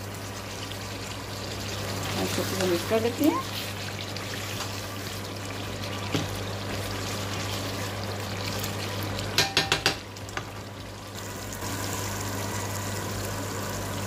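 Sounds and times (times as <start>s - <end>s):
gravy bubbling and sizzling: 0.0s - 14.0s.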